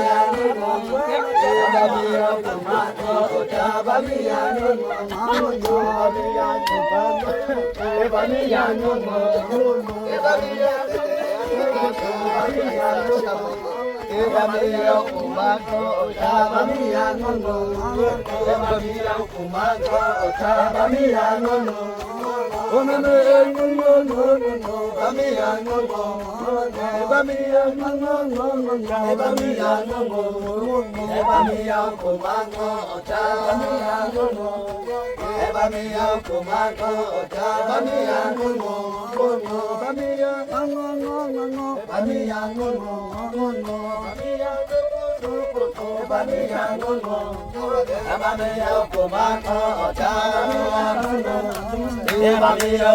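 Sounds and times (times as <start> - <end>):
voices chanting long notes: 0.0 - 52.9.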